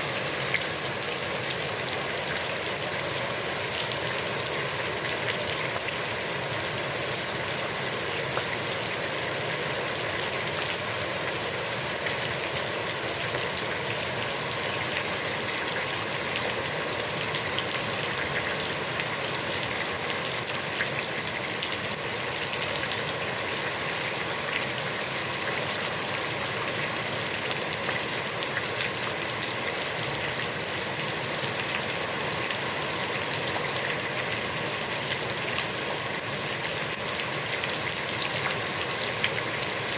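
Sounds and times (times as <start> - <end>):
heavy rain on pond water: 0.0 - 39.9.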